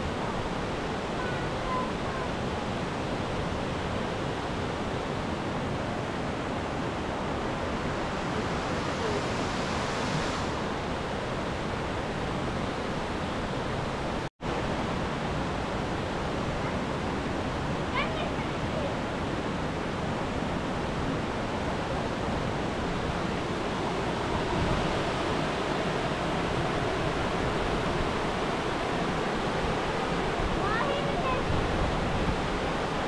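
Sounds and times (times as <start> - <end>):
river water rushing down spillway: 0.0 - 33.0.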